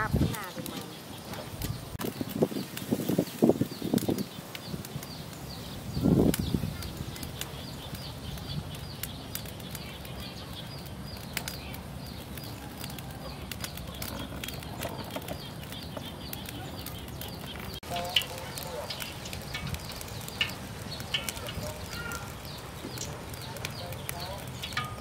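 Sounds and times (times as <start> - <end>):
oil trickling into a wok: 0.0 - 25.0.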